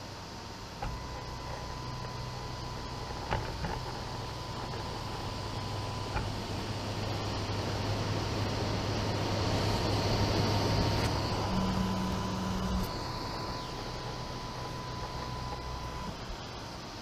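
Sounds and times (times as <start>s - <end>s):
fan whir: 0.0s - 17.0s
stepper motors humming: 0.0s - 17.0s.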